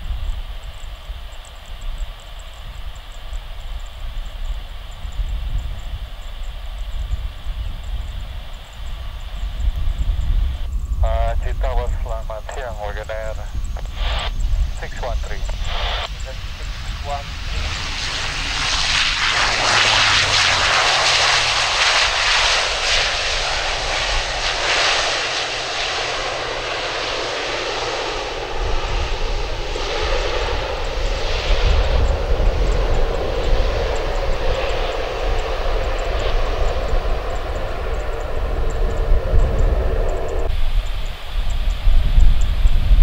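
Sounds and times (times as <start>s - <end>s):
turboprop engines roaring: 1.6s - 43.0s.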